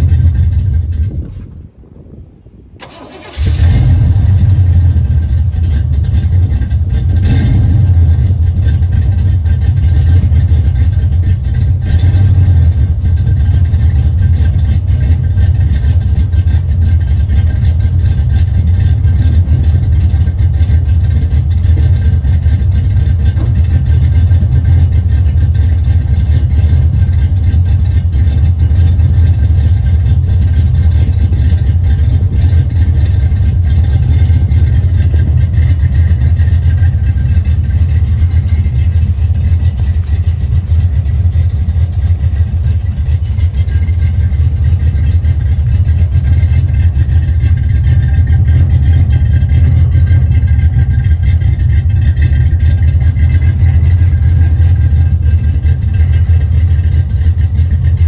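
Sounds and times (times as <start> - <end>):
engine deep idle: 0.0 - 58.0
engine cranking: 2.8 - 58.0.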